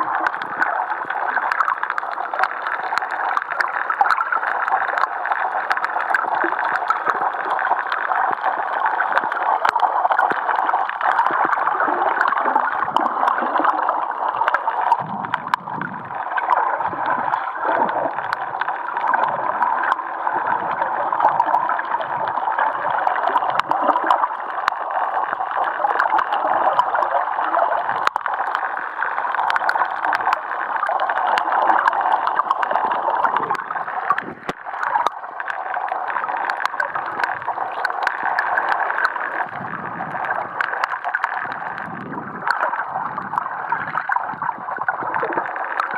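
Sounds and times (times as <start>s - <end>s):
crackling clicks: 0.0s - 45.9s
low gurgling rumbles: 0.0s - 45.9s.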